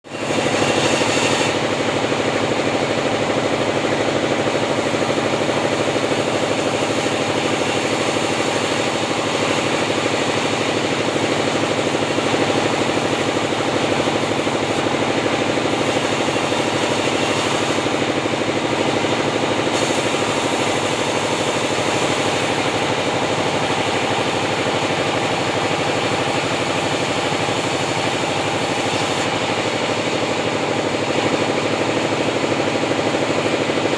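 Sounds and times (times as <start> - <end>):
chainsaw cutting timber: 0.1 - 33.9.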